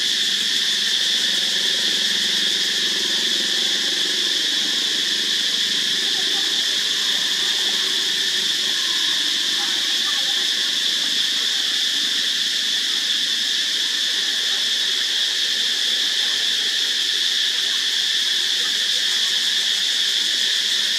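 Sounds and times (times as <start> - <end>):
insect chorus drone: 0.0 - 20.9.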